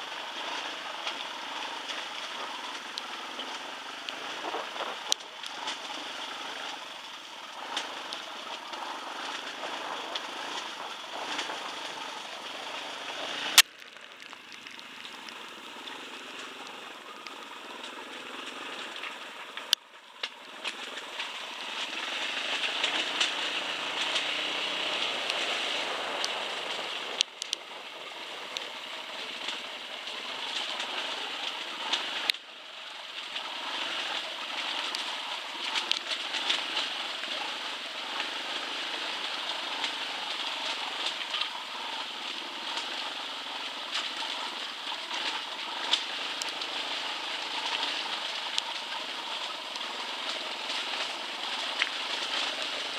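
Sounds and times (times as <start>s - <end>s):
rocks clicking and knocking: 0.1s - 52.9s.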